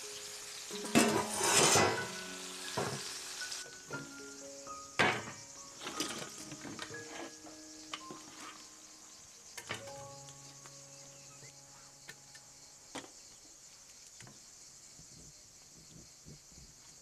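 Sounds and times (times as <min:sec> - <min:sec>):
faint high hiss: 0:00.0 - 0:17.0.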